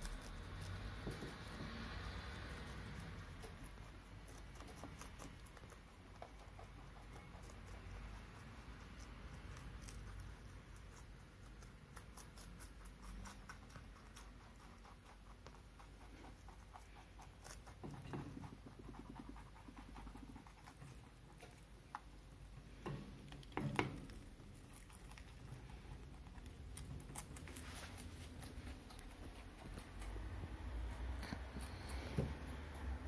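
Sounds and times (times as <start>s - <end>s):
rabbits chewing leaves: 0.0s - 33.0s.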